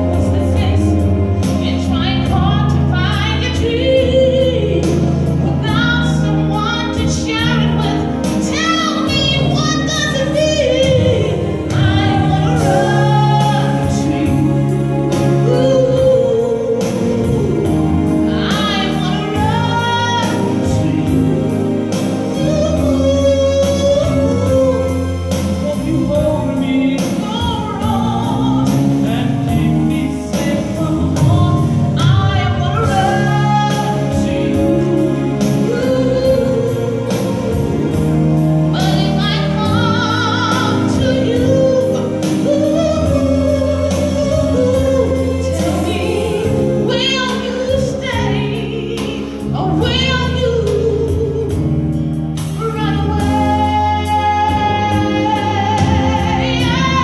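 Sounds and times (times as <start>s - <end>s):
instrumental accompaniment: 0.0s - 57.0s
woman singing into microphone: 0.0s - 57.0s.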